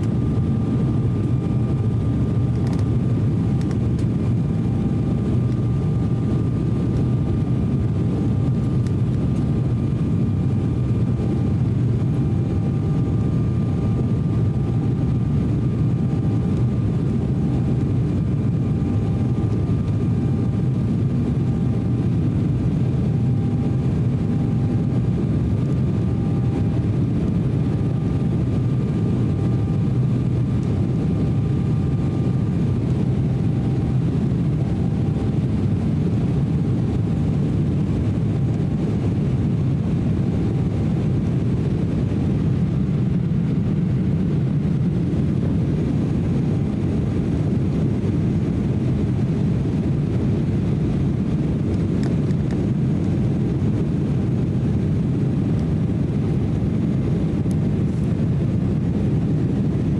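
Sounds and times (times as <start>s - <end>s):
airliner cabin engine rumble: 0.0s - 59.9s
faint steady whine: 0.0s - 59.9s.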